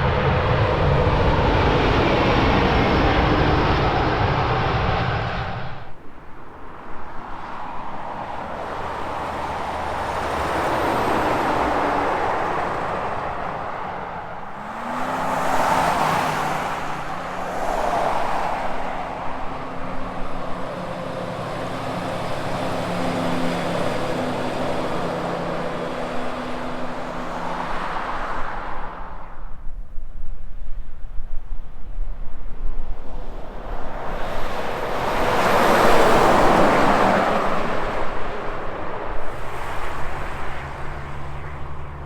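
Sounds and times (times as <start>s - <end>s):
truck diesel engine drone: 0.0s - 6.0s, 8.8s - 28.2s, 33.3s - 42.0s
highway traffic passing: 0.0s - 29.8s, 31.8s - 42.0s.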